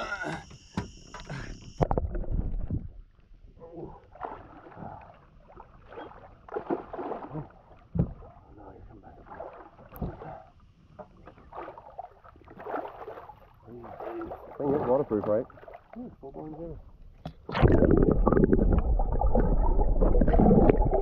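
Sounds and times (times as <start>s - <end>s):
water splashing and sloshing: 1.8s - 21.0s.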